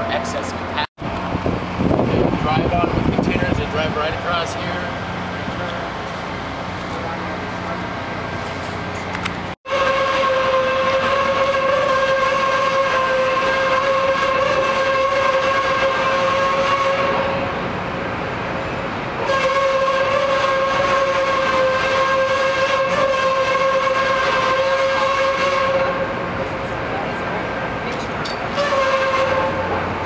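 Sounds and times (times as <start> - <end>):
rail cars being shoved: 4.2 - 30.0.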